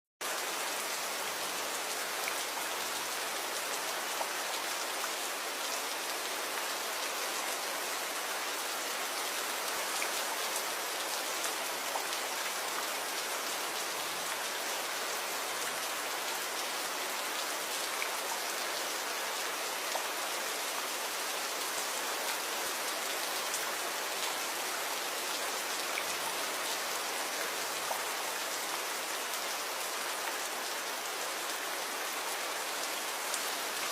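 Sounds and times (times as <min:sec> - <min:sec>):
steady rain: 0:00.2 - 0:33.9.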